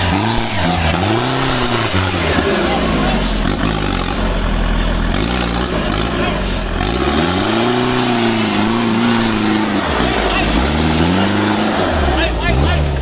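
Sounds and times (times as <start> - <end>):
pickup engine revving hard: 0.0 - 13.0.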